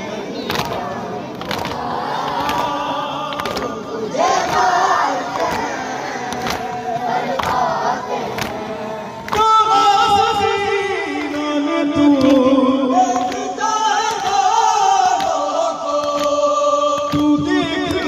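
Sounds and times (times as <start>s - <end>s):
man chanting through a microphone: 0.0s - 18.0s.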